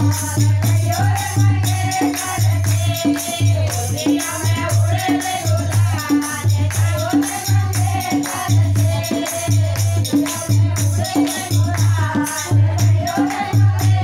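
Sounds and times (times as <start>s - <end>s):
barrel drum beat: 0.0s - 14.0s
hand clapping: 0.0s - 14.0s
women's group singing: 0.0s - 14.0s.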